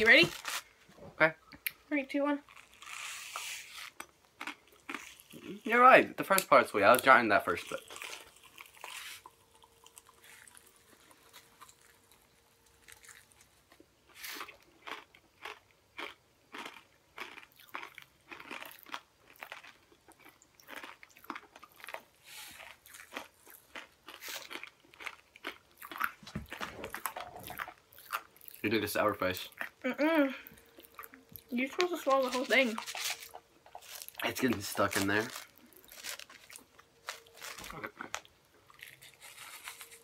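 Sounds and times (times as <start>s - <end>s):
popping candy crackling while chewed: 2.4s - 40.0s.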